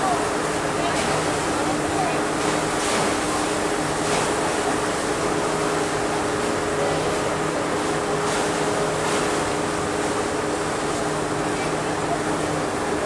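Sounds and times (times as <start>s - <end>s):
low hum of ship machinery: 0.0s - 13.0s
running water: 0.0s - 13.0s.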